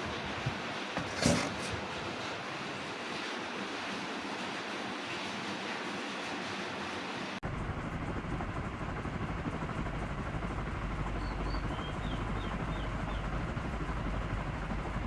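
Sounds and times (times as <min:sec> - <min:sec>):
ceiling fan rushing air: 0:00.0 - 0:15.0.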